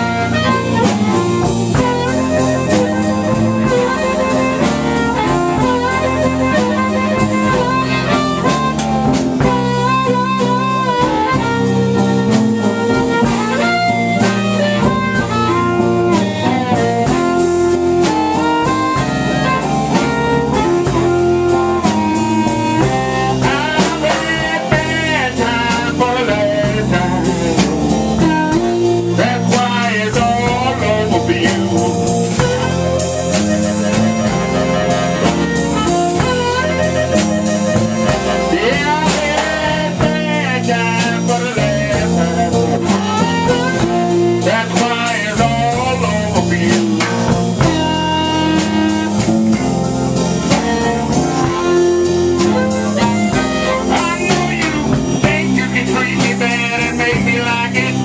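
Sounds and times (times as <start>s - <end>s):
live blues band: 0.0s - 58.0s.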